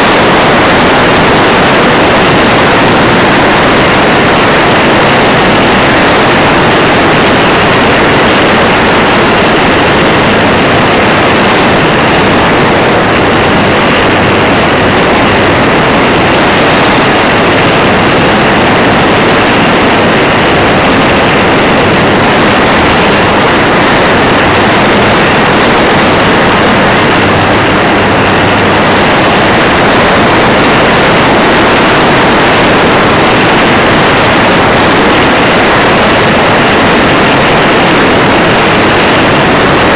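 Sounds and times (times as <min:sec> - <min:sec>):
model airplane motor and propeller: 0:00.0 - 0:39.9
wind noise: 0:00.0 - 0:39.9.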